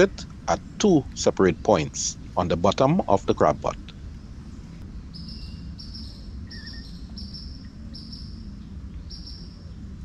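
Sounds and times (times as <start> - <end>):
insect chirping: 0.0 - 10.0
low outdoor background: 0.0 - 10.0.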